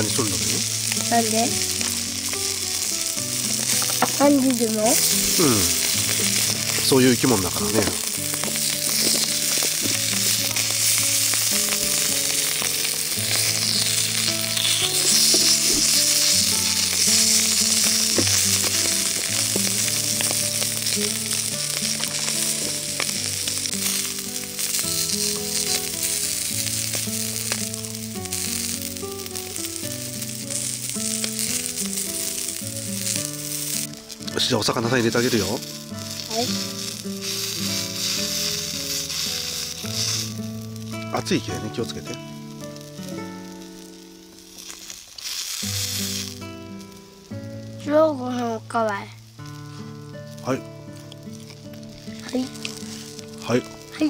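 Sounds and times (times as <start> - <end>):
fish sizzling on griddle: 0.0 - 54.0
slow soft melodic music: 0.0 - 54.0.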